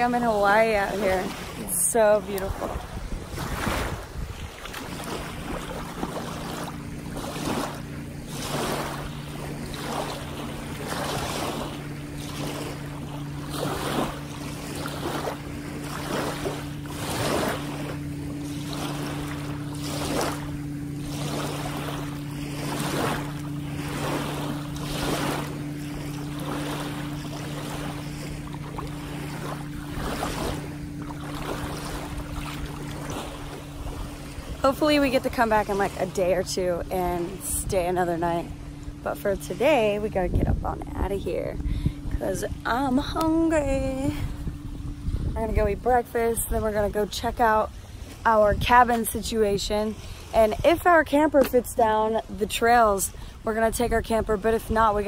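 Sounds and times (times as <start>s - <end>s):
boat engine humming: 0.0s - 55.0s
water splashing in shallows: 0.0s - 55.0s.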